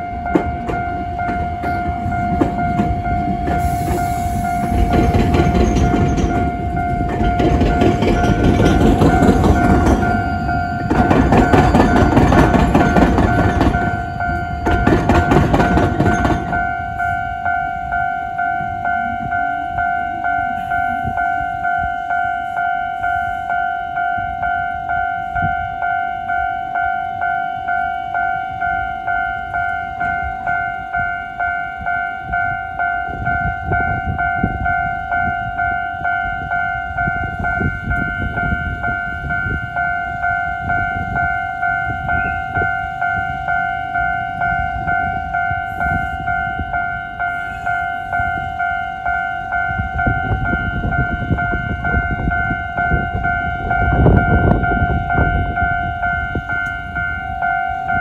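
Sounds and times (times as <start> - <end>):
level crossing alarm two-tone ding: 0.0 - 58.0.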